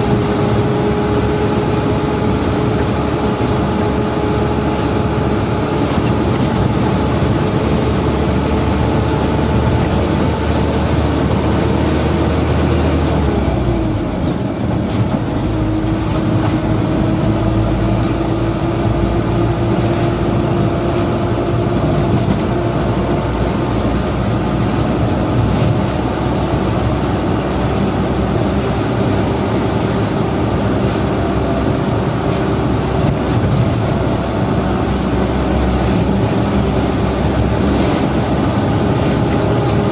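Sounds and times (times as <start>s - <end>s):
dump truck engine droning: 0.0s - 39.9s.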